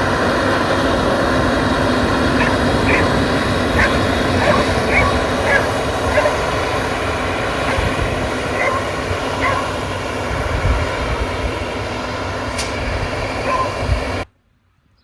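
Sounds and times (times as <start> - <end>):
engine and machinery noise: 0.0 - 14.4.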